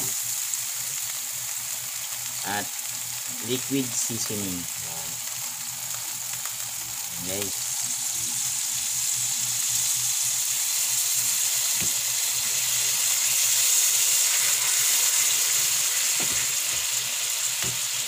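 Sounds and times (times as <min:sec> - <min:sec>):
fish sizzling in a frying pan: 0:00.0 - 0:18.0.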